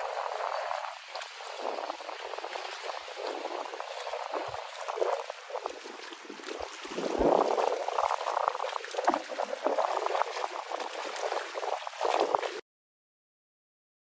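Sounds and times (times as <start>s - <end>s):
water sloshing and splashing: 0.0s - 12.6s.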